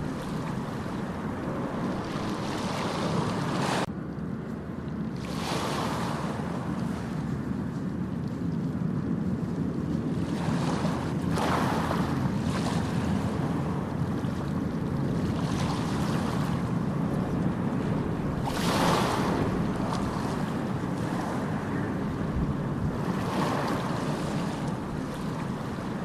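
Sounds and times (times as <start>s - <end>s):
ocean waves breaking on beach: 0.0s - 3.9s, 5.0s - 26.0s
wind buffeting microphone: 0.0s - 26.0s.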